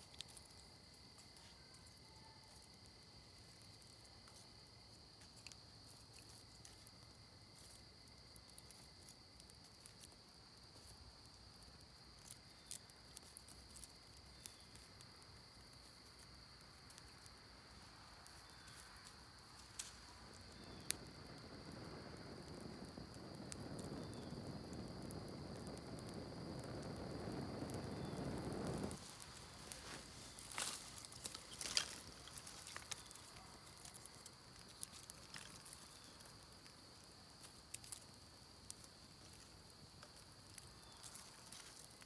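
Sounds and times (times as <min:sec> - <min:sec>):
crickets droning: 0:00.0 - 0:42.0
twig fire crackling and popping: 0:00.0 - 0:42.0.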